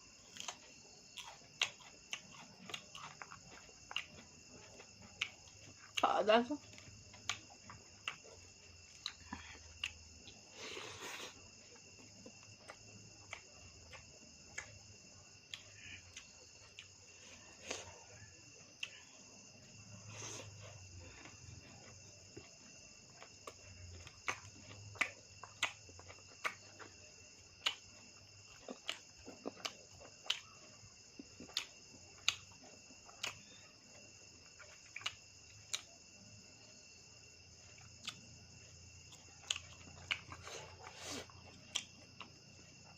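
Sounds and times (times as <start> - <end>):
crickets trilling: 0.0 - 42.9
person eating clicks and smacks: 0.2 - 6.0, 6.6 - 17.0, 20.1 - 36.0, 37.6 - 42.9.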